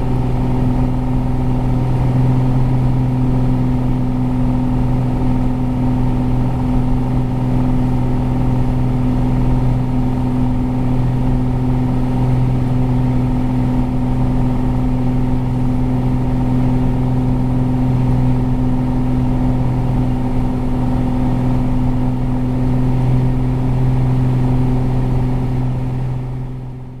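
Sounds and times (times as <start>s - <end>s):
propeller plane engine drone: 0.0s - 27.0s.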